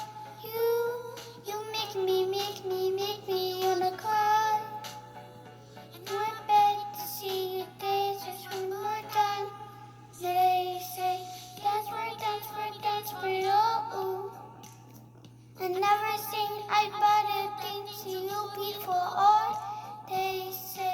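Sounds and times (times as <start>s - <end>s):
child singing: 0.0s - 5.0s, 5.9s - 14.7s, 15.6s - 20.9s
music: 0.0s - 20.9s.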